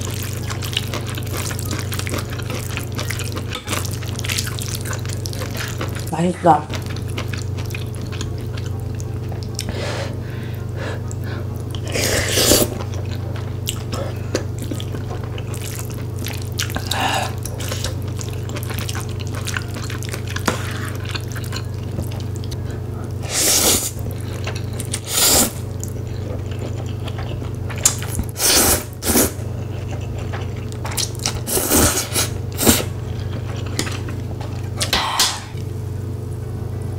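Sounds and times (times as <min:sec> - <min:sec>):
wet chewing: 0:00.0 - 0:09.8, 0:11.0 - 0:22.8, 0:23.6 - 0:35.0
steady low hum: 0:00.0 - 0:36.9.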